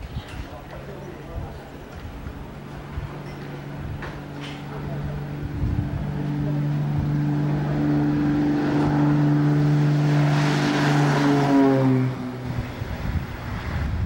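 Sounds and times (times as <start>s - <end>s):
propeller aircraft engine drone: 0.5s - 14.0s.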